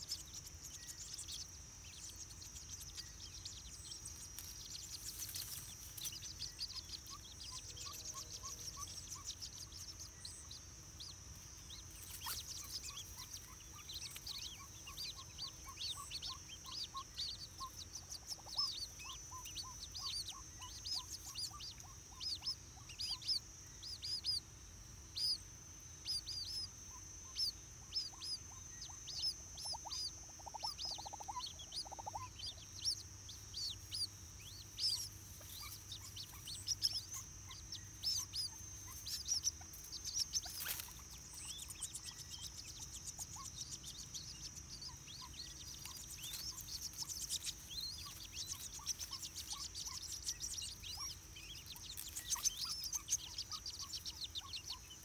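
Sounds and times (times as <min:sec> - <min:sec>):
chicks peeping: 0:00.0 - 0:55.0
steady high hum: 0:00.0 - 0:55.0.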